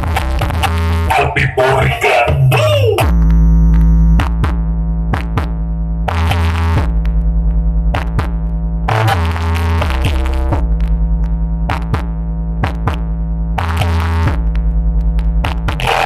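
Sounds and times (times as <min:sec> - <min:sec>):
bass-heavy electronic dance music: 0:00.0 - 0:16.0.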